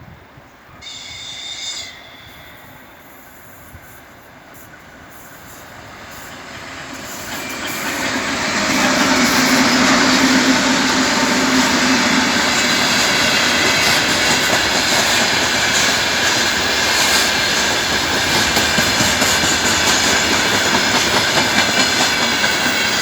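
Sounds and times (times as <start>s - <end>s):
diesel locomotive and train rumble: 0.1s - 23.0s.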